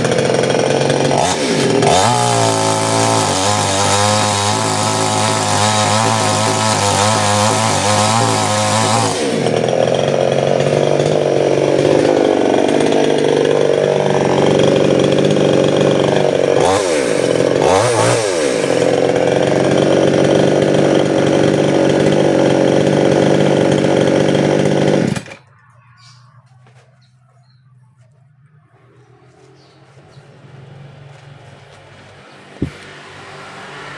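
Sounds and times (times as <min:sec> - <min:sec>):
chainsaw running hard: 0:00.0 - 0:25.4, 0:29.2 - 0:33.9.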